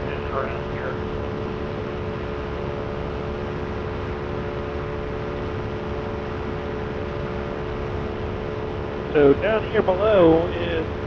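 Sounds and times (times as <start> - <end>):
paramotor engine droning: 0.0 - 11.0.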